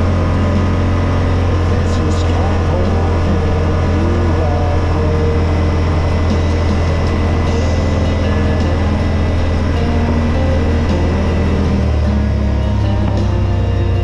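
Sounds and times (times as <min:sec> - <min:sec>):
road and wind noise: 0:00.0 - 0:14.0
vehicle engine droning: 0:00.0 - 0:14.0.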